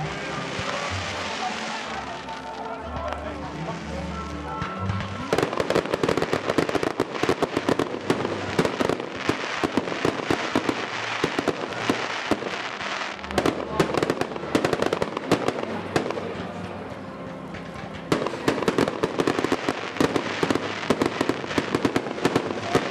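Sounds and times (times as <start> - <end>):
fireworks crackling: 0.0 - 22.9
fireworks cracks and bangs: 0.0 - 22.9.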